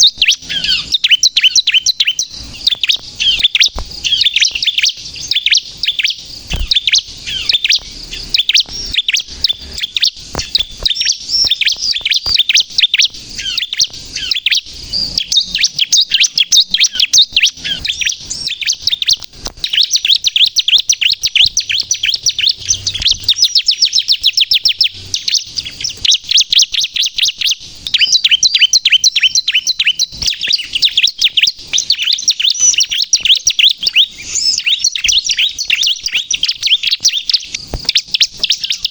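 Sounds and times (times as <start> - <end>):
small bird singing rapid chirps: 0.0 - 38.9.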